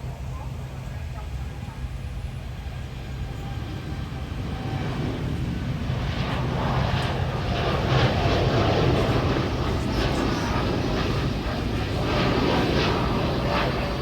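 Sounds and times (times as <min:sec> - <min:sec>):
airliner engines rumbling: 0:00.0 - 0:14.0.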